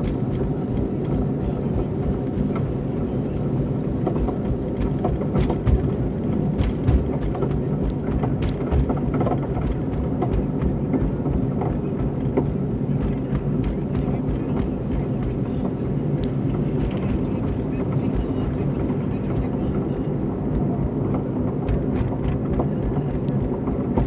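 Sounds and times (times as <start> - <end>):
car driving rumble: 0.1 - 24.0.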